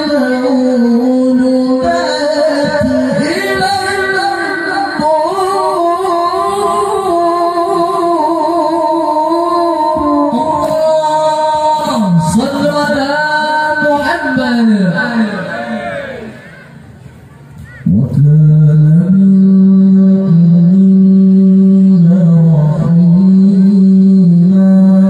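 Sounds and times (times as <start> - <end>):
man reciting melodically through loudspeakers: 0.0 - 16.8, 17.6 - 25.0.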